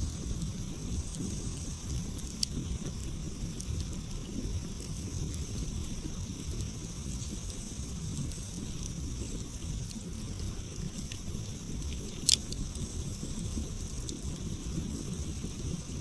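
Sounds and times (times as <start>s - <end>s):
campfire crackling: 0.0s - 16.0s
low steady rumble: 0.0s - 16.0s
sharp fire pops: 0.1s - 15.0s.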